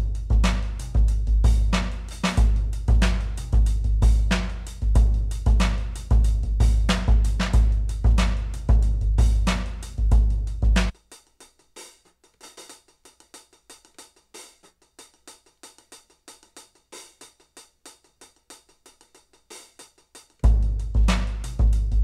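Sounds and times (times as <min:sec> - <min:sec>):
snare and hi-hat hits: 0:00.0 - 0:22.0.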